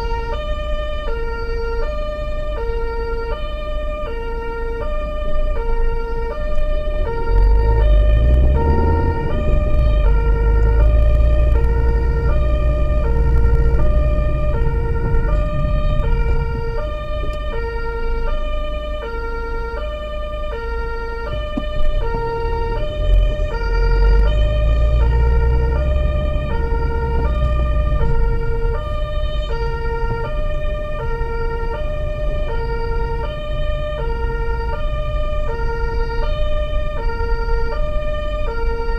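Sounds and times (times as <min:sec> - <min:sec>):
engine and tyre rumble: 0:00.0 - 0:38.9
two-tone emergency siren: 0:00.0 - 0:38.9.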